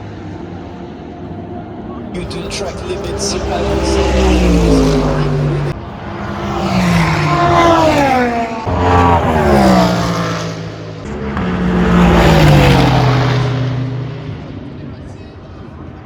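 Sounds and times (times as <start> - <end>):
race cars passing at speed: 0.0 - 16.0.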